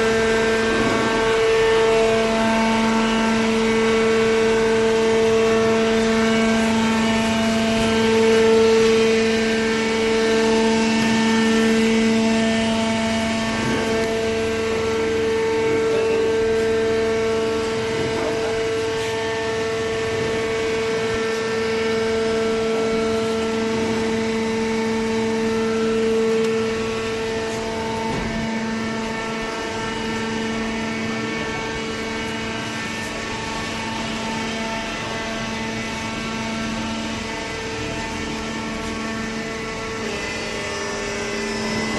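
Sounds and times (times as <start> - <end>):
hydraulic pump motor drone: 0.0 - 41.9.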